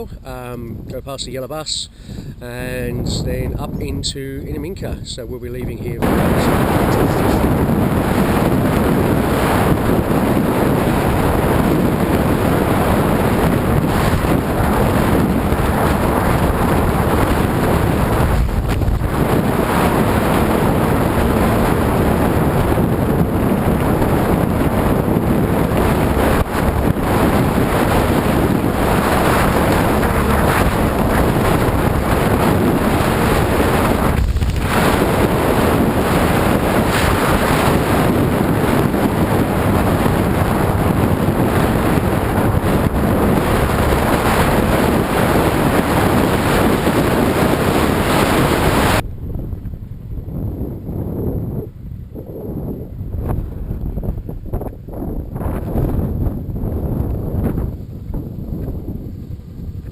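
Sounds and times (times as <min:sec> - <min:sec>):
wind buffeting microphone: 0:00.0 - 0:59.9
road noise: 0:06.0 - 0:51.0, 0:51.6 - 0:59.9
motorbike running: 0:06.0 - 0:59.9.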